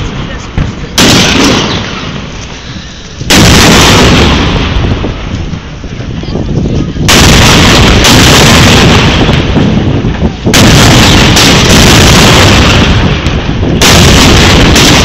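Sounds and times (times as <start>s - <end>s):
cannon bangs: 0.0s - 2.3s, 3.3s - 5.3s, 7.0s - 15.0s
loud rumble: 0.9s - 15.0s.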